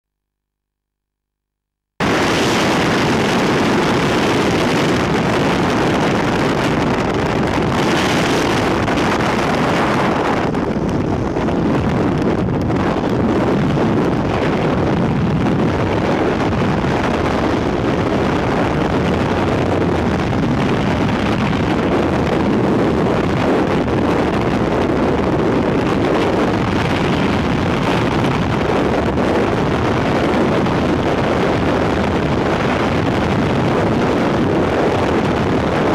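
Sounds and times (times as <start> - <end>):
plane engine: 2.0 - 35.9
wind buffeting microphone: 2.0 - 35.9.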